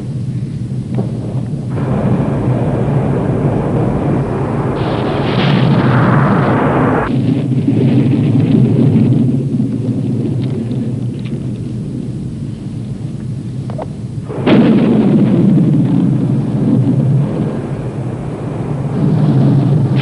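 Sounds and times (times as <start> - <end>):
airliner drone: 0.0 - 20.0
thunder rolling: 0.0 - 20.0.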